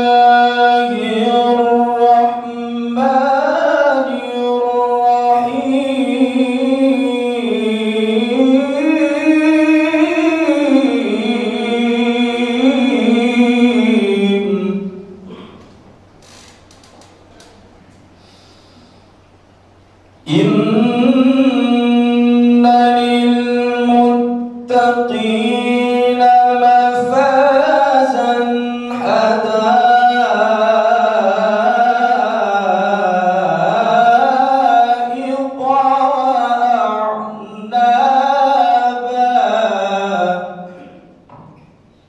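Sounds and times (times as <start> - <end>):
man reciting melodically into microphone: 0.0 - 15.3, 20.2 - 41.2.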